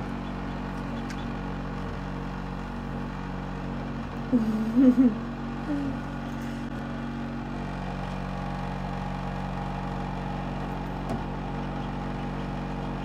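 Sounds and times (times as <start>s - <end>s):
incubator fan humming: 0.0s - 13.0s.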